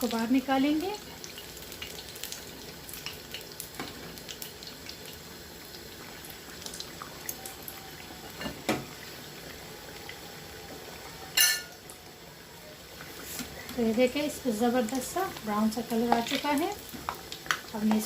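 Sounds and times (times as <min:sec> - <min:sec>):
meat sizzling in oil: 0:00.0 - 0:18.0.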